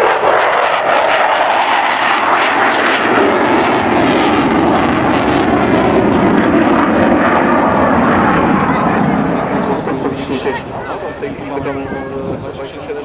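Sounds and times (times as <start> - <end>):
airplane engine flying past: 0.0 - 13.0.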